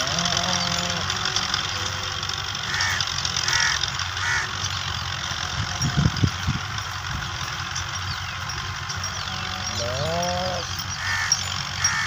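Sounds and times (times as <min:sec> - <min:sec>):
bird calling: 0:00.0 - 0:05.4, 0:07.6 - 0:12.0
tractor engines under load: 0:00.0 - 0:12.0.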